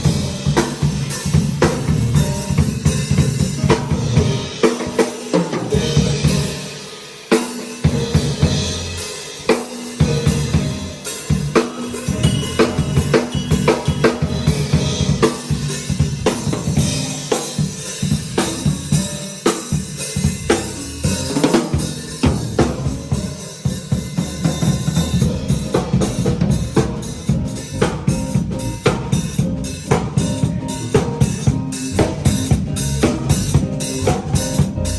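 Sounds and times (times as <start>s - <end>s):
drum kit hits and cymbals: 0.0s - 34.9s
live band playing: 0.0s - 34.9s.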